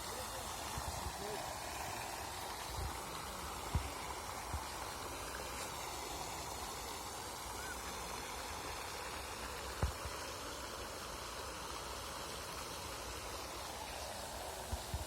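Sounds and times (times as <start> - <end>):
open-air hiss: 0.0 - 15.0.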